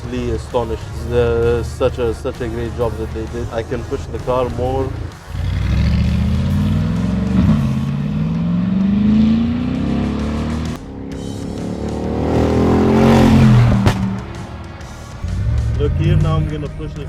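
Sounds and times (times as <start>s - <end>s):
engine accelerating hard: 0.0s - 17.0s.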